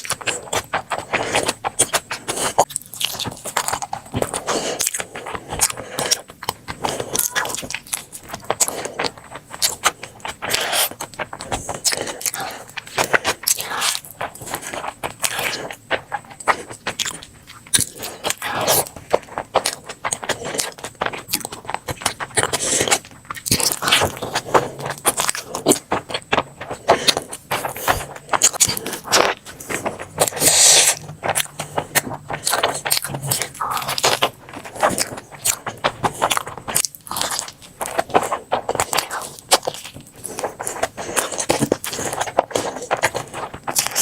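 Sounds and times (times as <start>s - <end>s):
crunchy food being chewed: 0.0s - 44.0s.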